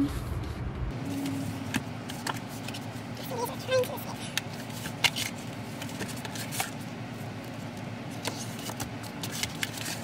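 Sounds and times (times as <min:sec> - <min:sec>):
paper and card rustling: 0:01.0 - 0:10.0.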